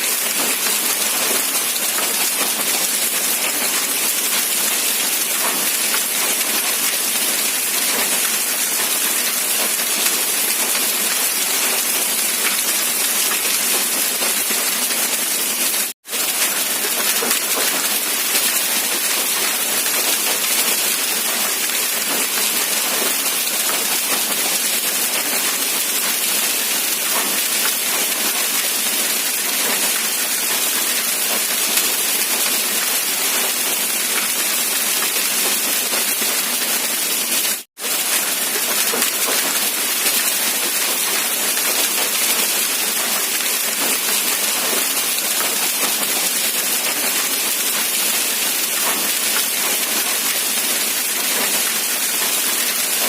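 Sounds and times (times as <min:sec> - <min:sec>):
rain falling steadily: 0:00.0 - 0:53.0.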